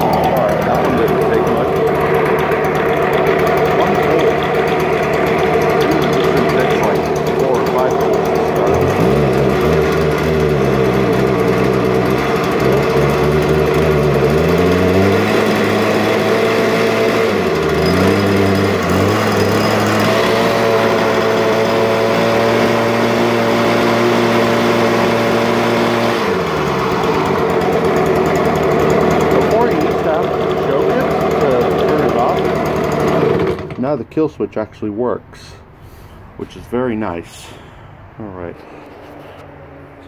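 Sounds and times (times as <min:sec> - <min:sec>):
leaf blower engine revving: 0:00.0 - 0:34.4.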